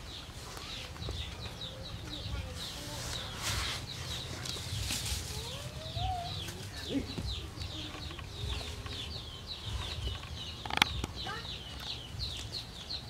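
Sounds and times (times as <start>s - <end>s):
small birds peeping: 0.0s - 13.0s.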